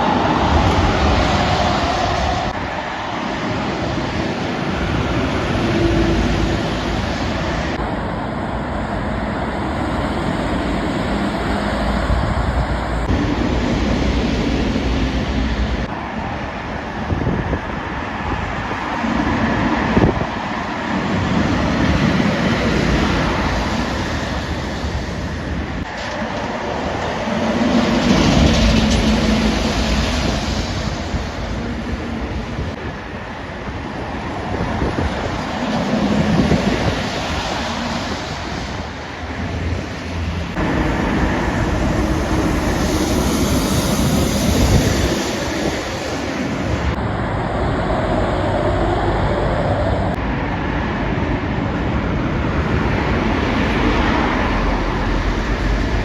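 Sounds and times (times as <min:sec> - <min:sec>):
heavy trucks passing: 0:00.0 - 0:56.0.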